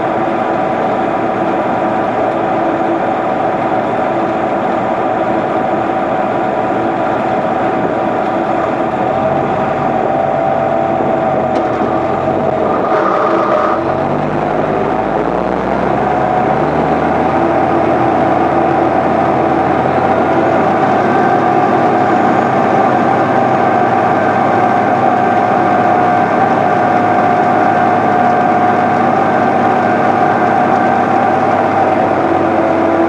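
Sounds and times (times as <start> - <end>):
steady whine: 0.0 - 33.0
vehicle engine running: 0.0 - 33.0.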